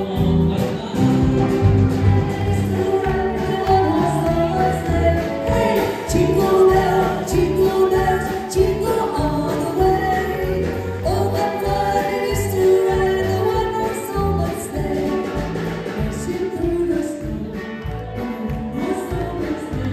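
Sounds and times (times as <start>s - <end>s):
live band playing: 0.0s - 19.9s.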